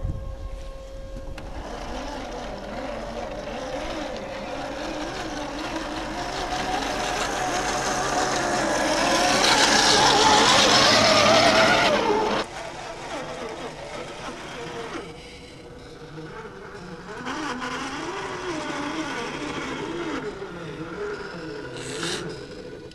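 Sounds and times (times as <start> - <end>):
toy truck motor whining: 0.2 - 22.9.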